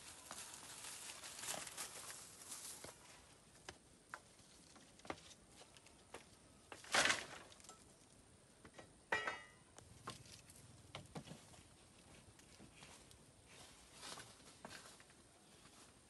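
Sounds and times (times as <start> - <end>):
branches rustling: 0.0 - 8.2, 9.9 - 15.9.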